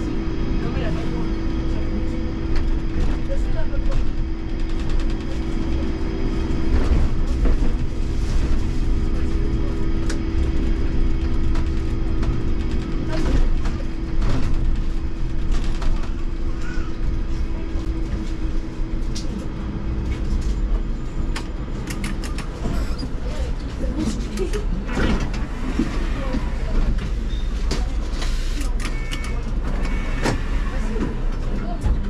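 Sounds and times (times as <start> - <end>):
trolleybus low rumble: 0.0 - 32.0.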